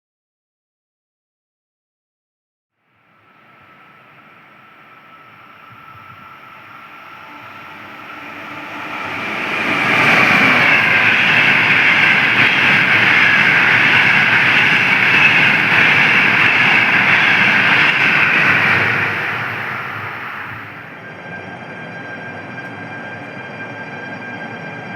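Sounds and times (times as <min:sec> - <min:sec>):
train passing at speed: 0:02.8 - 0:24.9.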